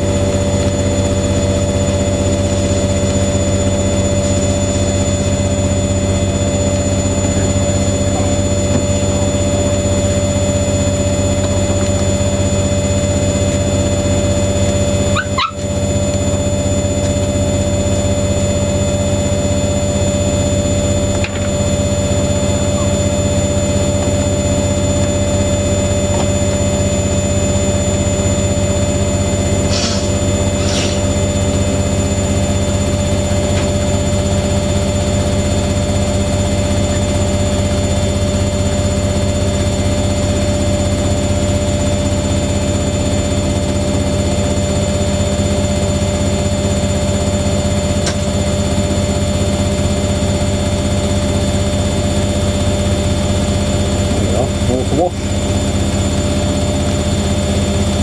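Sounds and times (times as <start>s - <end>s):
washing machines spinning: 0.0s - 58.0s.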